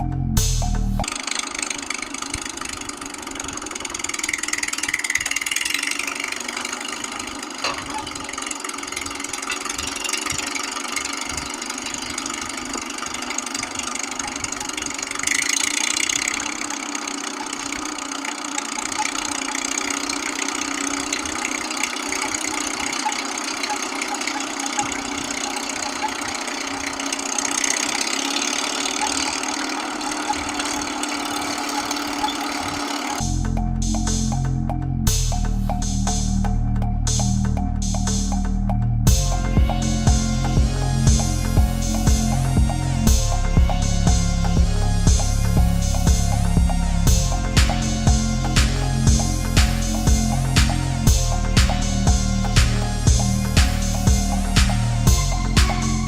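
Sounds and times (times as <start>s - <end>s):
motor running with knock: 0.4s - 34.5s, 39.1s - 56.0s.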